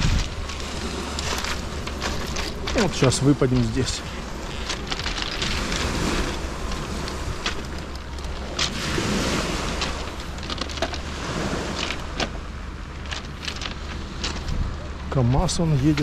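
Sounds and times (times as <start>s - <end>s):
stones clicking: 0.0s - 14.5s
waves washing onto pebble beach: 0.0s - 14.6s
wind buffeting microphone: 0.0s - 14.9s.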